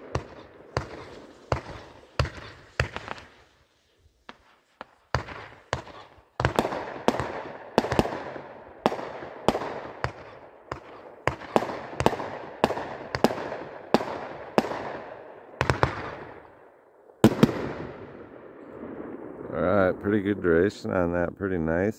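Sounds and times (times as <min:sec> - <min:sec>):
firework bangs with crackle: 0:00.0 - 0:16.5, 0:17.2 - 0:19.3.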